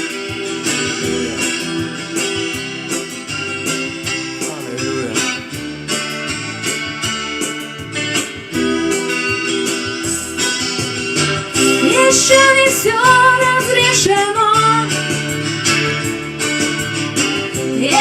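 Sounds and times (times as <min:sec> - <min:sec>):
backing instruments: 0:00.0 - 0:18.0
strummed guitar: 0:00.0 - 0:18.0.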